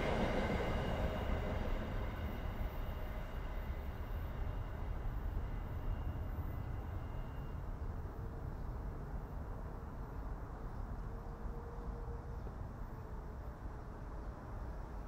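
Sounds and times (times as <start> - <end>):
passing train rumble: 0.0 - 15.0.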